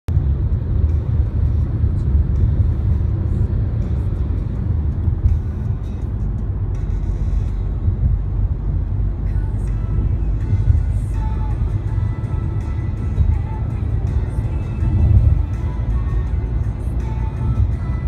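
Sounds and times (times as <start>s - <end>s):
road and traffic rumble: 0.1s - 18.0s.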